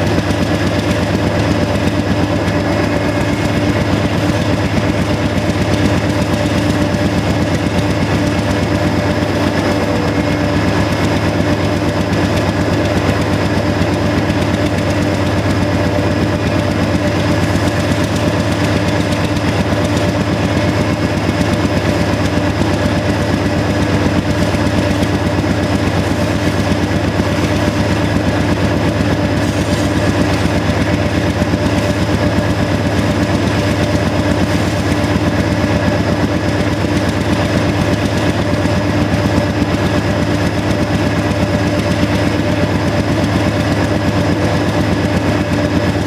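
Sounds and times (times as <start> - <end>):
constant whine: 0.0 - 46.0
diesel locomotive exhaust beat: 0.0 - 46.0.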